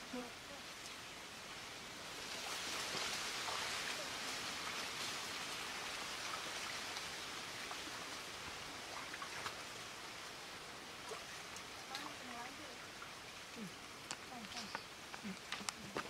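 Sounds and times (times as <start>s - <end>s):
people wading through muddy water: 1.8s - 16.0s.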